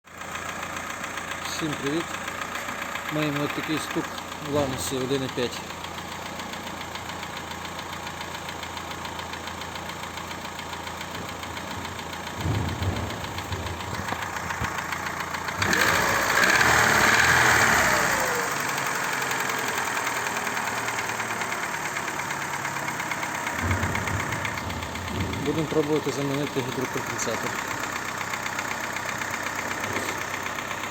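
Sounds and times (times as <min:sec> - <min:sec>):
engine knocking: 0:00.0 - 0:30.9.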